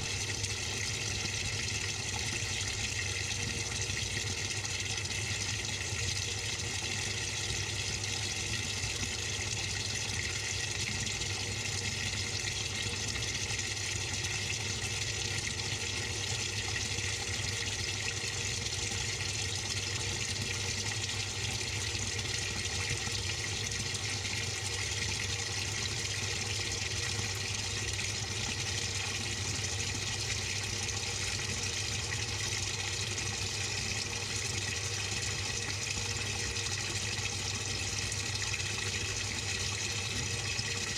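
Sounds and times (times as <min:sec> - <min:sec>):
water rushing in washing machine: 0:00.0 - 0:40.9.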